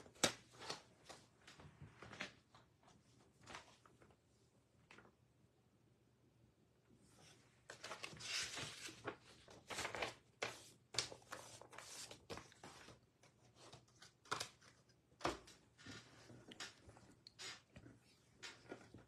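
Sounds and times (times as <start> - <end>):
rustling and crinkling handling: 0.0 - 5.2, 7.2 - 19.0.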